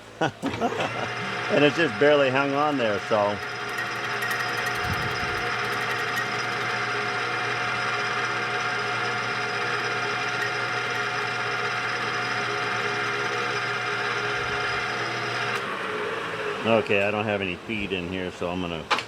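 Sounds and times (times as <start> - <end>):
metal lathe whining: 0.4 - 18.8.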